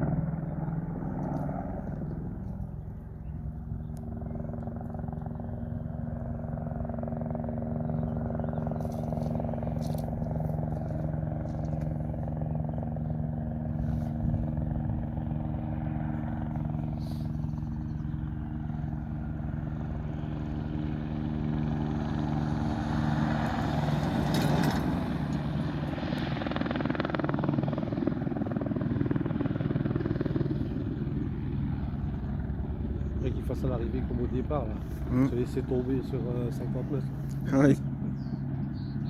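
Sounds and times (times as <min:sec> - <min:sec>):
helicopter turbine and rotor hum: 0:00.0 - 0:39.0.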